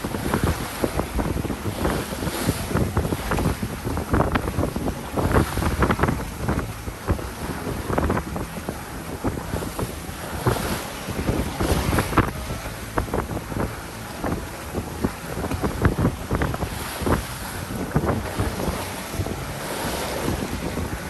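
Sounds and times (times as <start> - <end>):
water splashing along hull: 0.0 - 21.0
wind buffeting microphone: 0.0 - 21.0.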